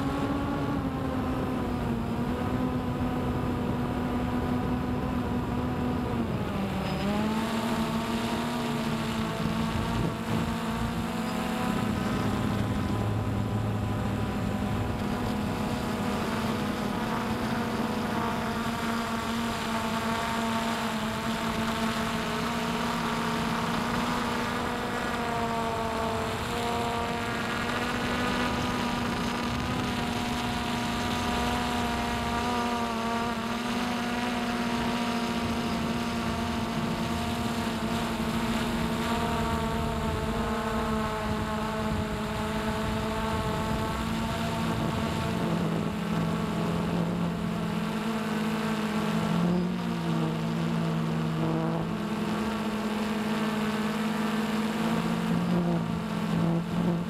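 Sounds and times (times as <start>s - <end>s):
drone propellers humming: 0.0s - 57.0s.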